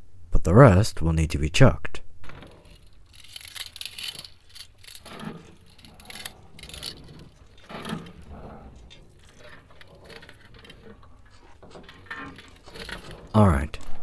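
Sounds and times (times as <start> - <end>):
scraping rust off metal: 2.2 - 14.0.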